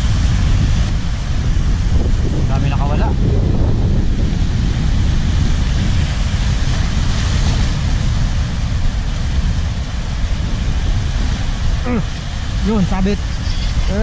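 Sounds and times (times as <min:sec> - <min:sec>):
surf washing over rocks: 0:00.0 - 0:14.0
wind buffeting microphone: 0:00.0 - 0:14.0.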